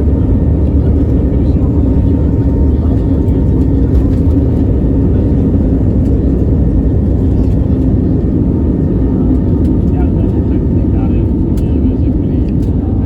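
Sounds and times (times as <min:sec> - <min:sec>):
jet cabin low rumble: 0:00.0 - 0:13.0.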